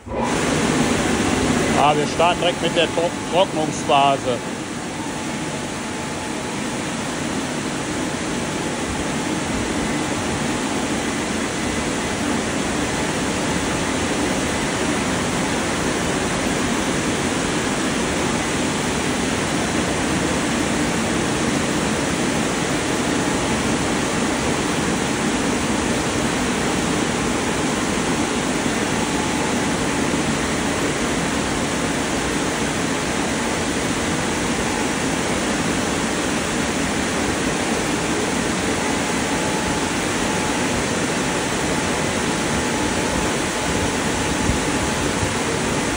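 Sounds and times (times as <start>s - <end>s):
car wash dryer blowers: 0.0s - 45.9s.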